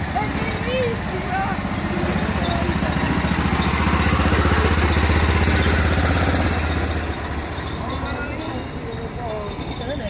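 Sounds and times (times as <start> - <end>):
small car engine driving past: 0.0 - 10.0.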